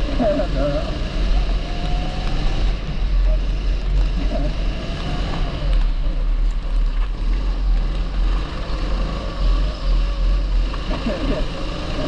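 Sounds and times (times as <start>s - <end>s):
kart engine running: 0.0s - 12.0s.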